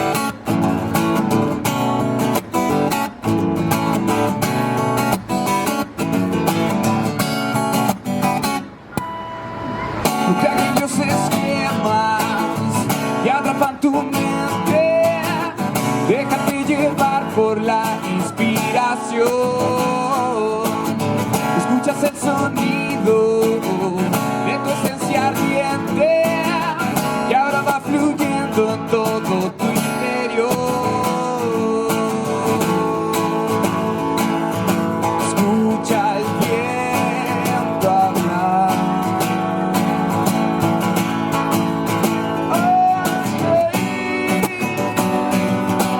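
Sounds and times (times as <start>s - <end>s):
acoustic guitar strummed: 0.0s - 45.9s
sliding guitar melody: 0.0s - 45.9s.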